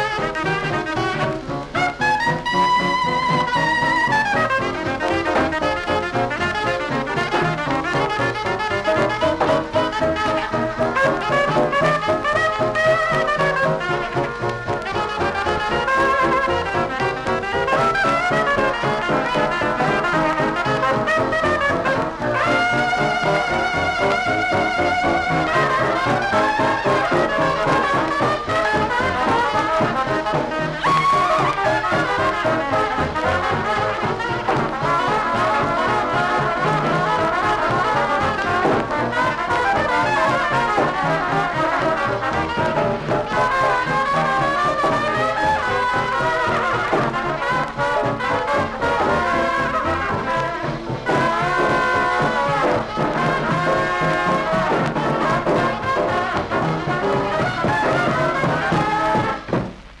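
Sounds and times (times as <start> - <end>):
jazz band on old record: 0.0 - 60.0.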